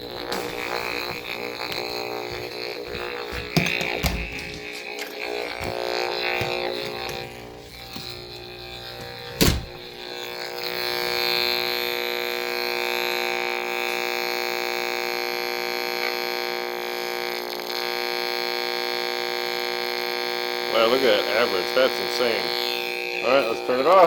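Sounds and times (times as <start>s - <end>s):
meter steady buzz: 0.0s - 24.0s.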